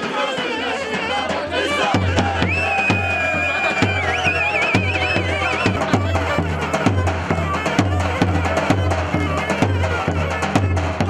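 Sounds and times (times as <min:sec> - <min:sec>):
shrill reed pipe melody: 0:00.0 - 0:11.0.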